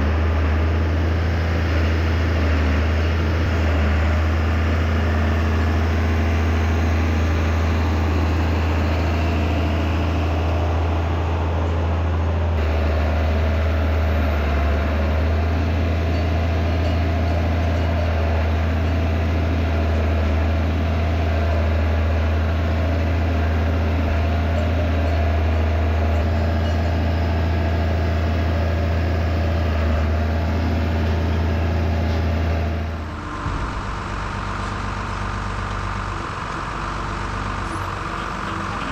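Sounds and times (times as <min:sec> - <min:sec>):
tractor engine humming: 0:00.0 - 0:38.9.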